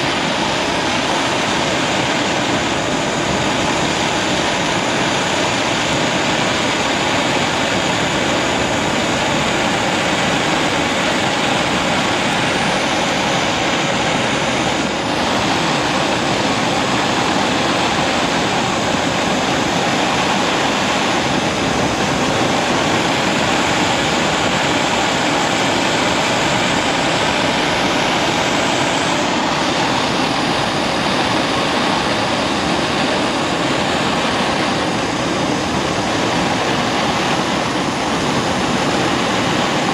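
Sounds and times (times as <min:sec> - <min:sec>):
blowtorch flame rushing: 0:00.0 - 0:39.9.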